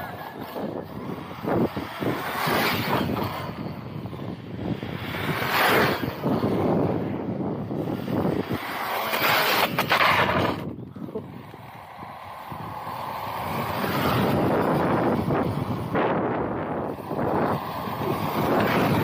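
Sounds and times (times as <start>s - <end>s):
tyre noise on asphalt: 0.0s - 19.0s
wind buffeting microphone: 0.0s - 19.0s.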